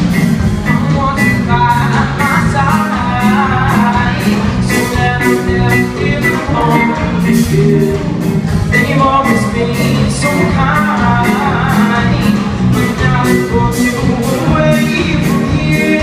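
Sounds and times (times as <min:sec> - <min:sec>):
live band playing folk-pop: 0:00.0 - 0:16.0
person singing: 0:00.0 - 0:16.0
steady drum beat: 0:00.0 - 0:16.0.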